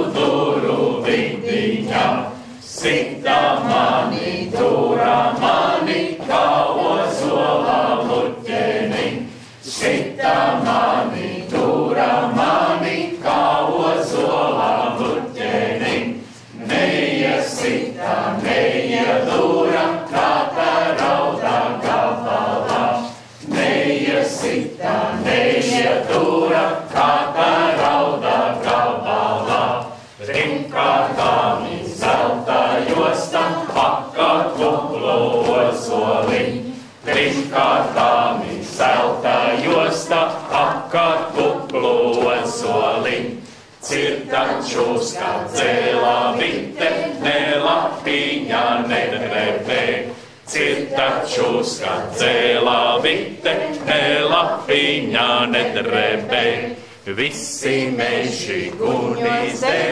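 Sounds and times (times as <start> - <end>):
group singing unaccompanied: 0.0 - 59.9.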